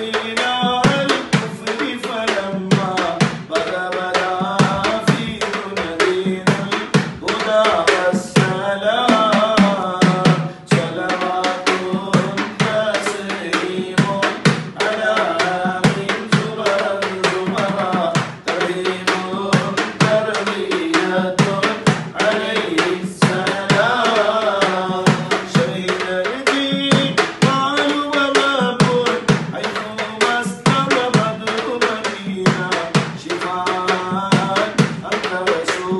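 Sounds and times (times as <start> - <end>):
hand drum beating: 0.0 - 35.9
men singing devotional song: 0.0 - 35.9.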